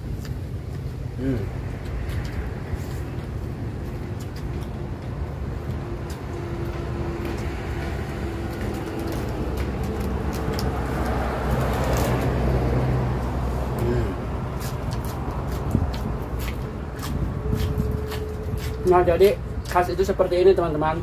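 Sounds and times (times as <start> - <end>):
crunchy chewing of leafy greens: 0.0 - 20.2
heavy road traffic rumble: 0.0 - 21.0.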